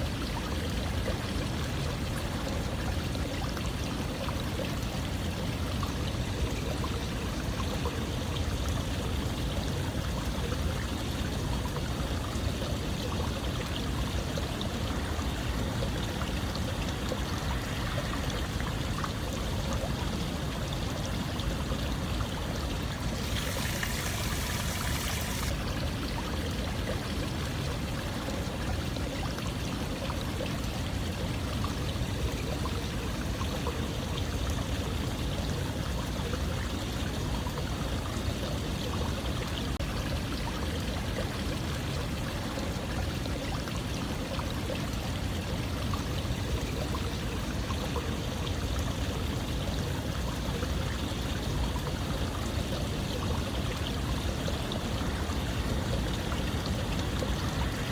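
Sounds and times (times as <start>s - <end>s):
running water rushing: 0.0s - 36.7s, 37.3s - 57.9s.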